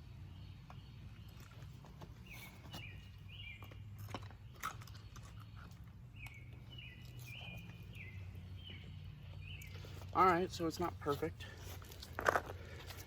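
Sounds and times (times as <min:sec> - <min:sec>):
bird chirping: 0:00.0 - 0:11.2.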